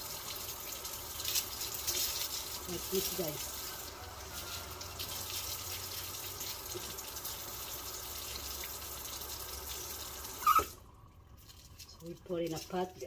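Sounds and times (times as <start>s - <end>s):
kitchen tap running: 0.0s - 13.0s.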